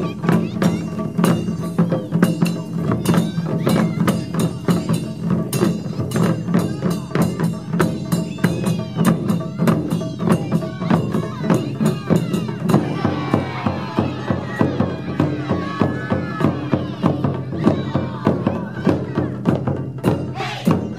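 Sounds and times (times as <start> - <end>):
drum ensemble playing fast rhythm: 0.0 - 20.9.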